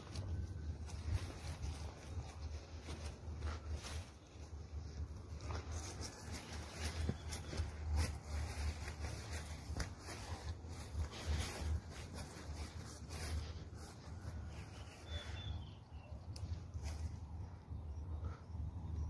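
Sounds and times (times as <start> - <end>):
footsteps through tall grass: 0.0 - 17.6.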